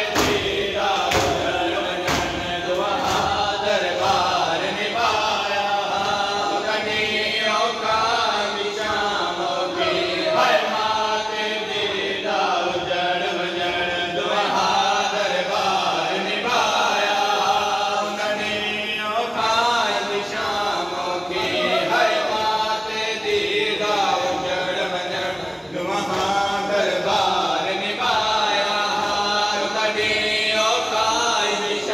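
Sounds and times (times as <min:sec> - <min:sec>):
men chanting a lament: 0:00.0 - 0:31.9.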